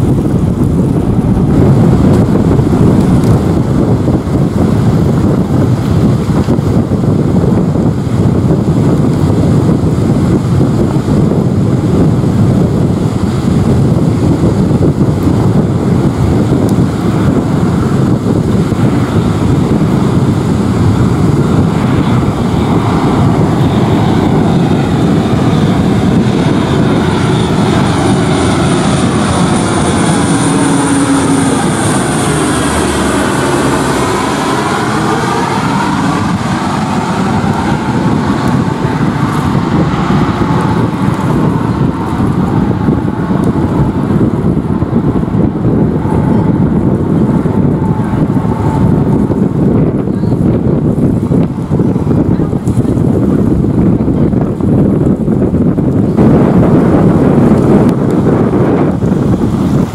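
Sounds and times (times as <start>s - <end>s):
high turbine whine: 0.0s - 59.9s
propeller and engine drone: 0.0s - 59.9s.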